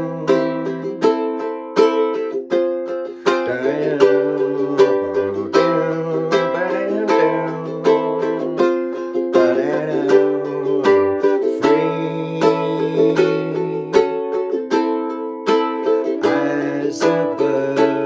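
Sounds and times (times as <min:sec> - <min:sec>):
ukulele strumming chords: 0:00.0 - 0:18.0.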